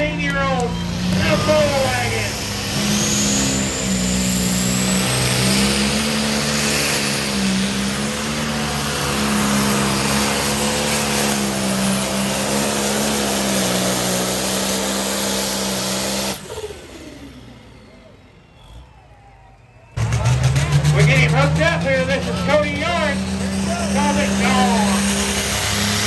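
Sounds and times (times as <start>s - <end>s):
tractor diesel engine at full throttle: 0.0s - 19.2s, 20.0s - 26.0s.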